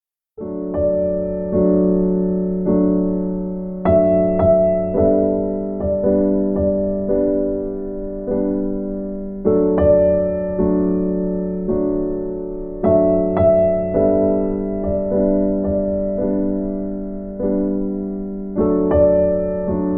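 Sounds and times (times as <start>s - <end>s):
gentle piano piece: 0.4s - 19.9s.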